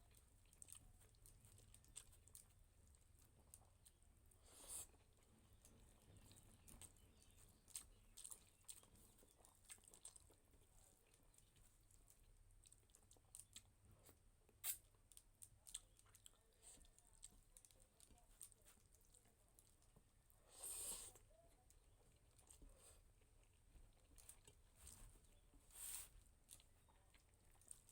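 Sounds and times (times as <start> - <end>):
chewing and mouth smacks: 0.0 - 27.9.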